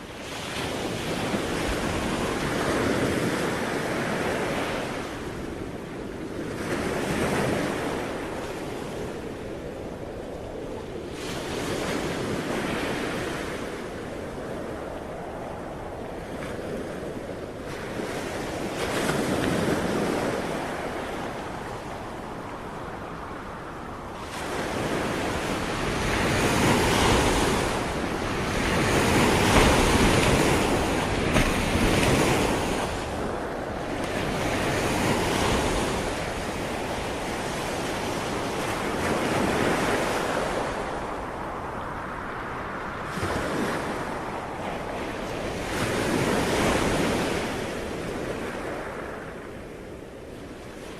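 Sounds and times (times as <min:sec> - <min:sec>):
ocean waves breaking on shore: 0:00.0 - 0:50.9
wind noise on microphone: 0:00.0 - 0:50.9.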